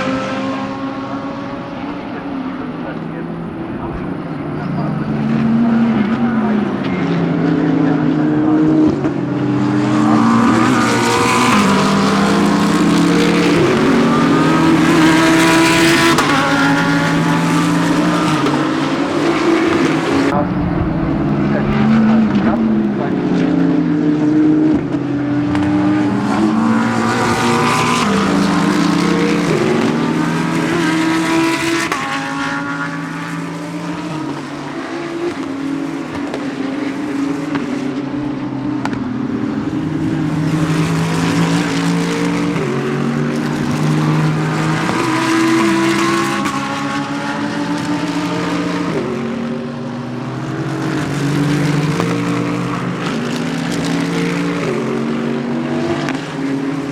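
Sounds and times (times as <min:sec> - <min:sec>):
race cars accelerating past: 0:00.0 - 0:56.9.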